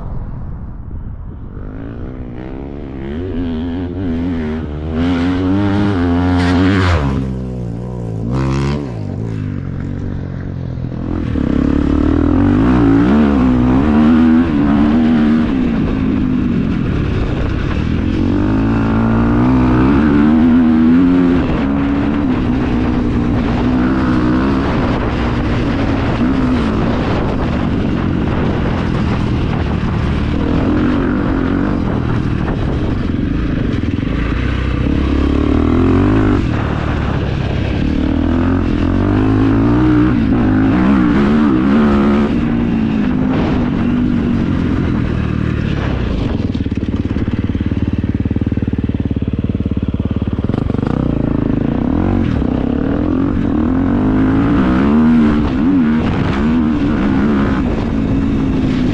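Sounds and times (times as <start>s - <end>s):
dirt bike engine revving: 1.6s - 58.9s.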